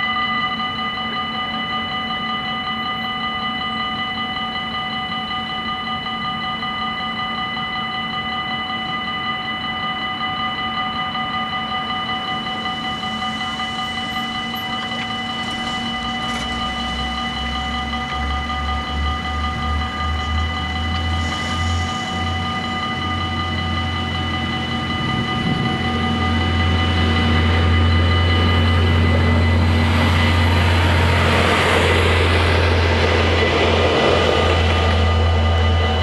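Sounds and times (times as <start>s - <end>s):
level crossing bells ringing: 0.0s - 36.0s
train engine and wheels passing: 0.0s - 36.0s.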